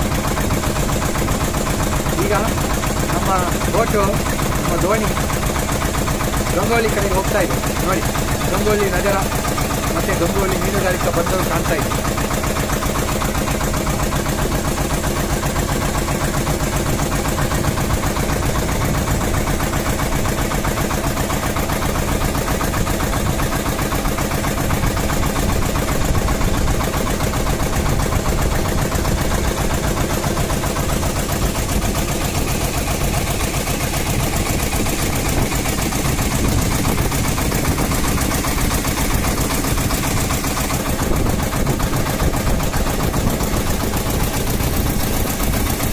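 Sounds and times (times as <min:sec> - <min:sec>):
small boat engine knocking: 0:00.0 - 0:45.9.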